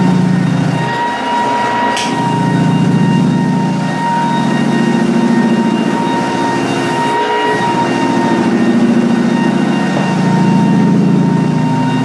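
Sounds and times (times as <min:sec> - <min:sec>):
floor sander motor whining: 0:00.0 - 0:12.0.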